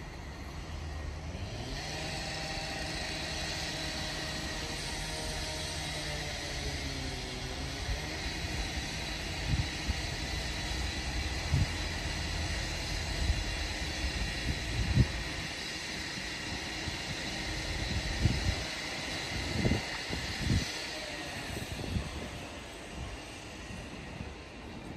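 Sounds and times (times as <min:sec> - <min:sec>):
electric train whine: 0:00.0 - 0:24.9
wheels rumbling on rail: 0:00.0 - 0:24.9.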